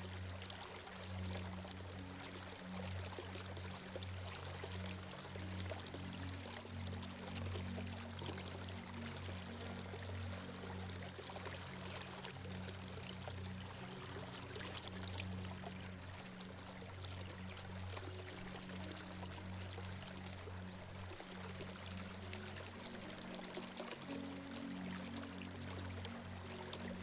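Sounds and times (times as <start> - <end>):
soft background music: 0.0 - 27.0
stream flowing: 0.0 - 27.0.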